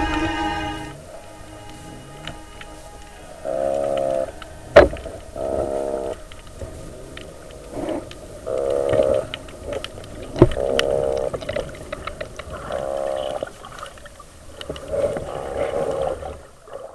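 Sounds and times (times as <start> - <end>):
fish croaking underwater: 0.0 - 16.9.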